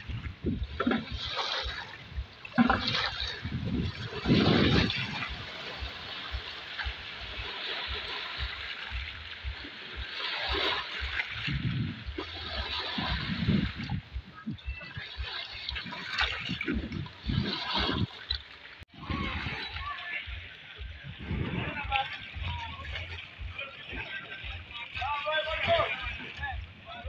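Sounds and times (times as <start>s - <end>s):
waves breaking over rocks: 0.0s - 27.0s.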